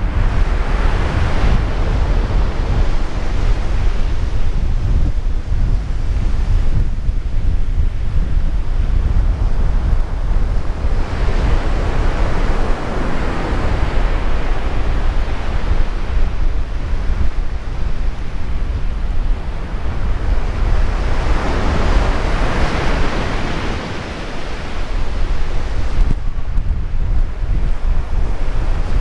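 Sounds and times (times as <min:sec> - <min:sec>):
surf breaking on a beach: 0:00.0 - 0:29.0
wind buffeting the microphone: 0:00.0 - 0:29.0.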